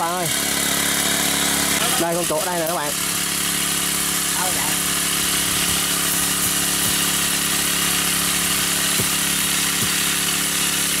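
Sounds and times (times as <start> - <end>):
water pump engine running: 0.0 - 11.0.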